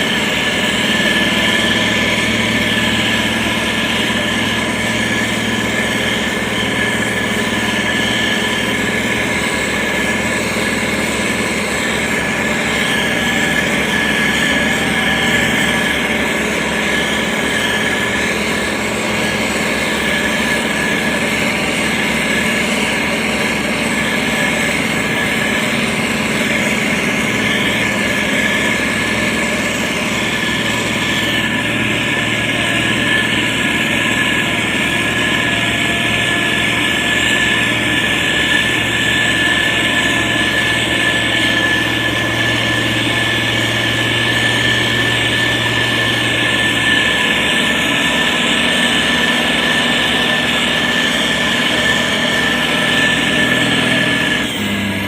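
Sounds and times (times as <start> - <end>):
constant high whine: 0.0 - 55.0
diesel engine running: 0.0 - 55.0.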